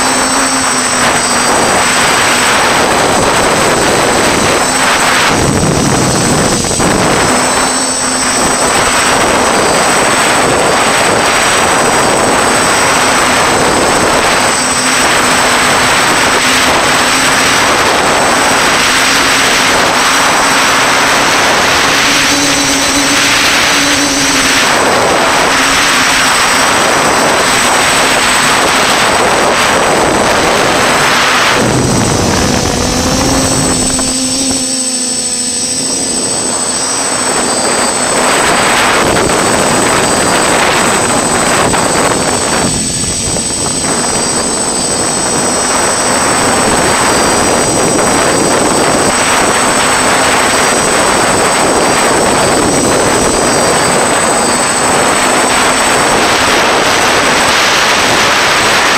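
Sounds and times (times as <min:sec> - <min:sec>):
drone motors whining: 0:00.0 - 0:58.9
wind rushing over camera: 0:00.0 - 0:58.9.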